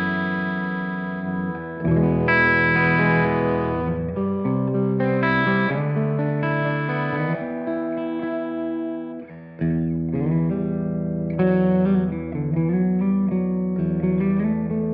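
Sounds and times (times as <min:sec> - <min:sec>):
clean electric guitar chords strummed: 0:00.0 - 0:14.9.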